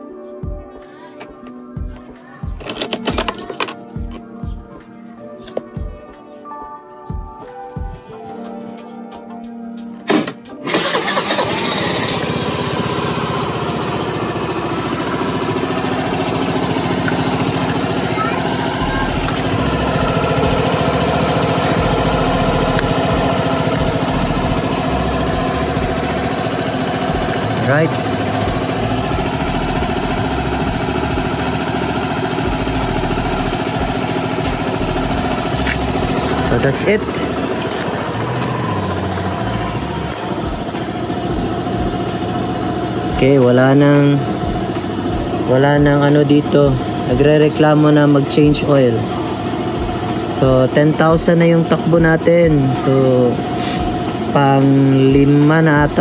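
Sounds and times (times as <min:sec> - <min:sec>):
scooter engine starting: 0:10.0 - 0:56.0
scooter engine idling: 0:10.1 - 0:56.0.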